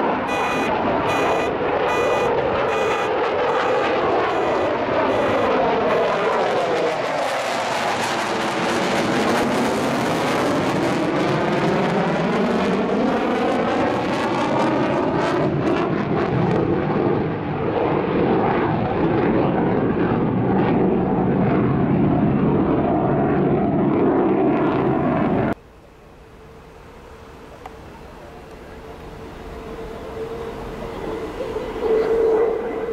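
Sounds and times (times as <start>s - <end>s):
fighter jet roaring overhead: 0.0s - 25.6s, 28.6s - 32.9s.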